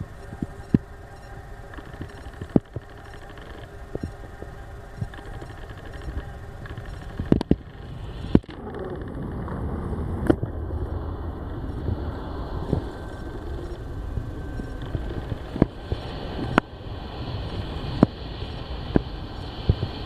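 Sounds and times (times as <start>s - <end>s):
jet engines on approach: 0.0s - 20.0s.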